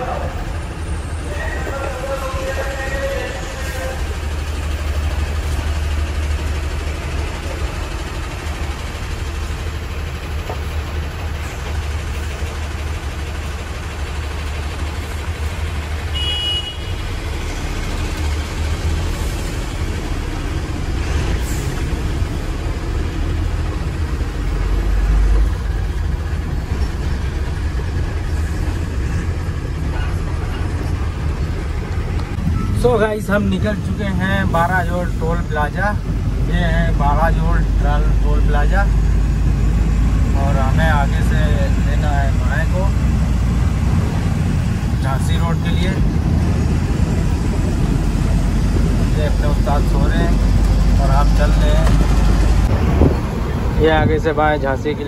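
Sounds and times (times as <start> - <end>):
road noise: 0.0 - 55.0
truck diesel engine rumbling: 0.0 - 55.0.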